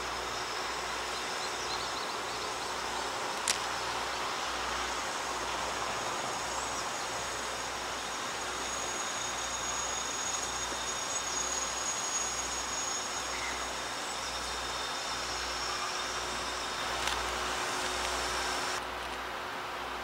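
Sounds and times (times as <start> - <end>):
distant steam train rumbling: 0.0 - 20.0.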